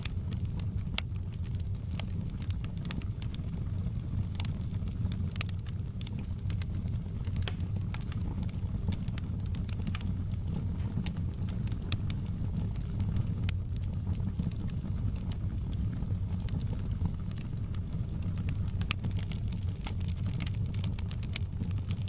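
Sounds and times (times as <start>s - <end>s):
fire crackling and popping: 0.0s - 22.0s
low rumble of burning fire: 0.0s - 22.0s.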